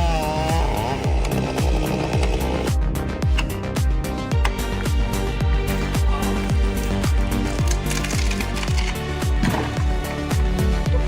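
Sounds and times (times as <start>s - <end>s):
music with deep drum beat: 0.0s - 11.0s.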